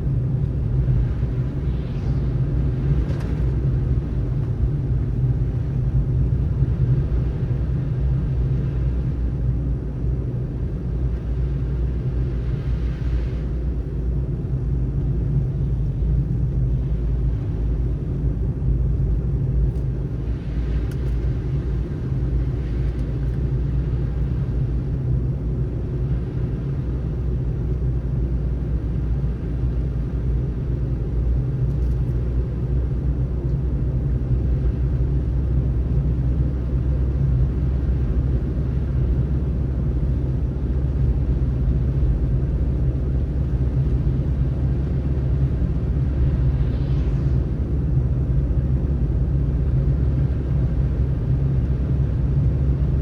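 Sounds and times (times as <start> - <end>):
car tyres and engine rumbling: 0.0 - 53.0.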